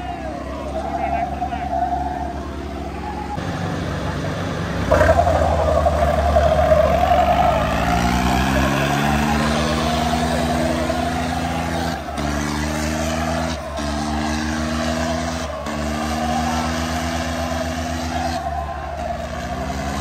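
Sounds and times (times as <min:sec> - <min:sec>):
tractor diesel engine revving: 0:00.0 - 0:20.0.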